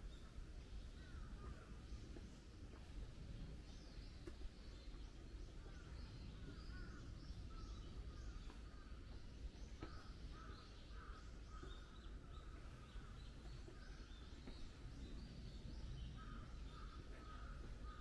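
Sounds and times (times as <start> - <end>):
birds calling: 0.0 - 18.0
faint low outdoor rumble: 0.0 - 18.0.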